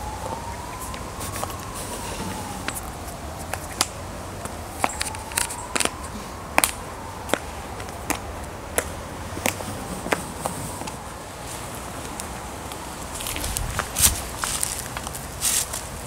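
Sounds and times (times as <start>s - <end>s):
faint siren: 0.0s - 16.0s
high heels clicking on pavement: 0.3s - 16.0s.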